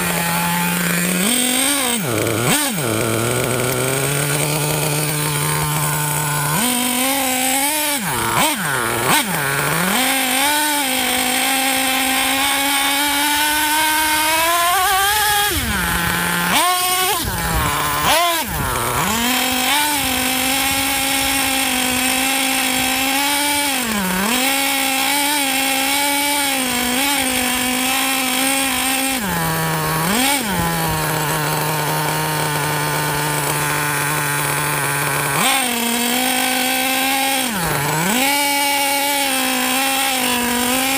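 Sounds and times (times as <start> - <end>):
small two-stroke engine revving: 0.0 - 40.9.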